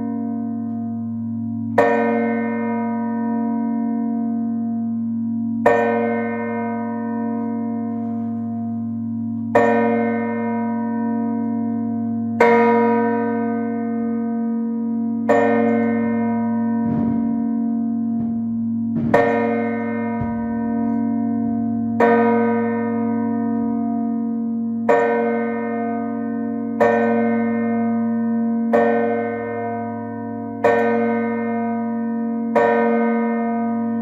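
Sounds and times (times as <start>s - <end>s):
church bell strokes: 0.0s - 34.0s.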